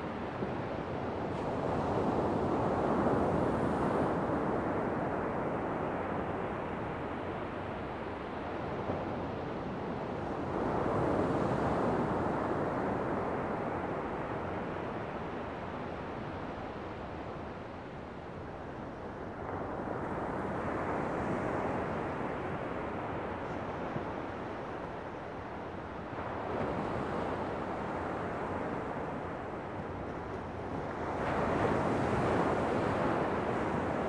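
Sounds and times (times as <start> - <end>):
ocean waves breaking on shore: 0.0 - 34.0.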